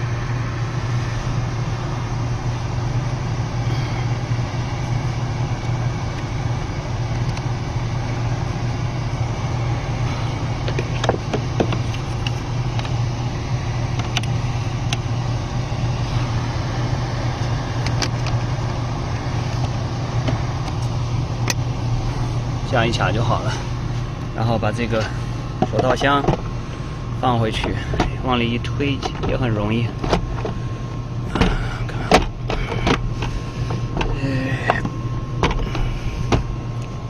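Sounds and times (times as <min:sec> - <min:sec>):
blower fan rushing air: 0:00.0 - 0:37.0
engine idling hum: 0:00.0 - 0:37.0.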